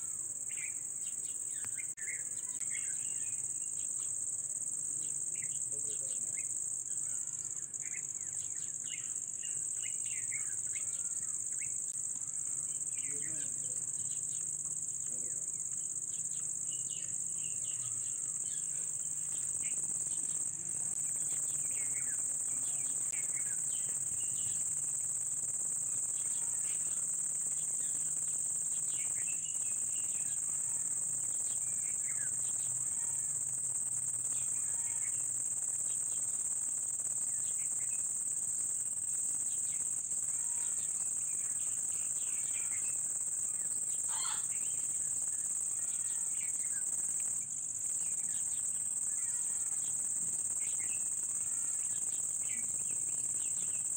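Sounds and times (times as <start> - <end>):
insects calling drone: 0.0 - 53.9.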